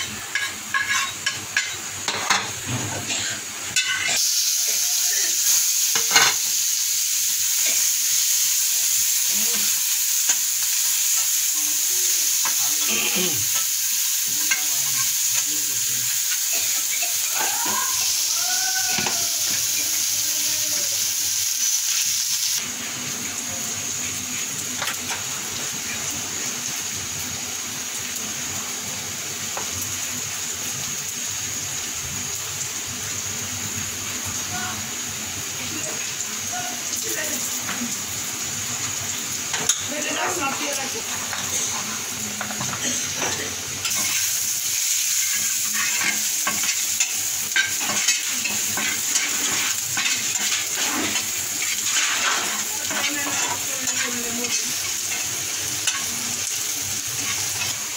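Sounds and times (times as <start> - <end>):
onions sizzling in oil: 0.0 - 57.9.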